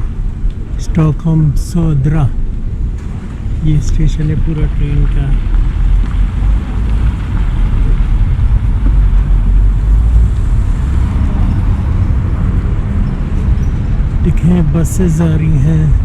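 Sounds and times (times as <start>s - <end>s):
bus and traffic engines rumbling: 0.0s - 16.0s.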